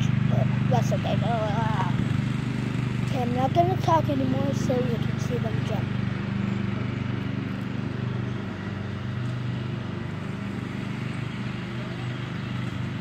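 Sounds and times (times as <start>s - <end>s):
engine running at low speed: 0.0s - 13.0s.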